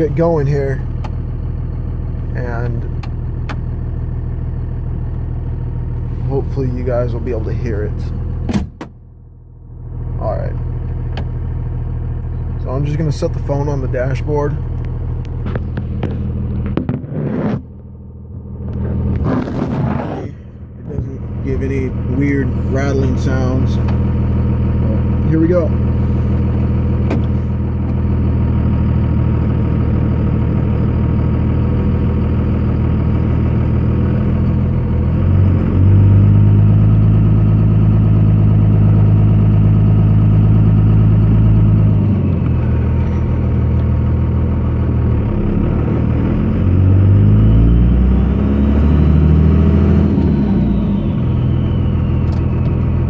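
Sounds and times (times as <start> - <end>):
diesel engine accelerating: 0.0 - 53.0.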